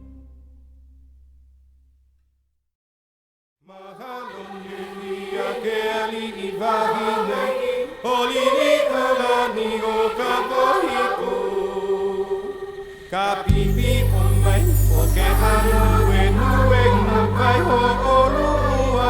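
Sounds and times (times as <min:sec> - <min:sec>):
choir singing long notes: 0:03.7 - 0:19.0.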